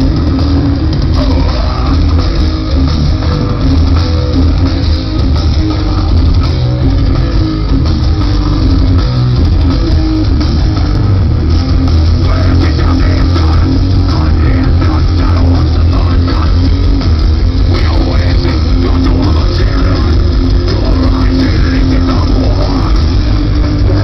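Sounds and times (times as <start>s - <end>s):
heavy metal band playing live: 0.0s - 24.0s.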